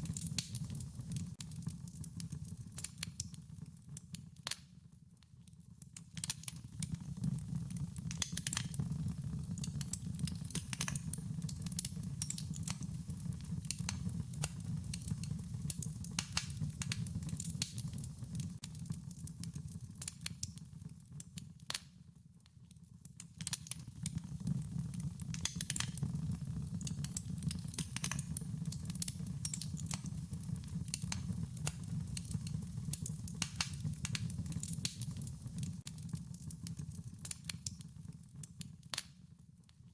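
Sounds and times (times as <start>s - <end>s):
wood fire crackling: 0.0s - 39.7s.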